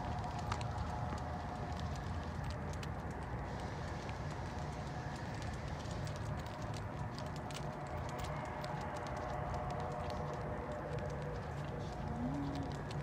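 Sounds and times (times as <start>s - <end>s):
low outdoor hum: 0.0s - 13.0s.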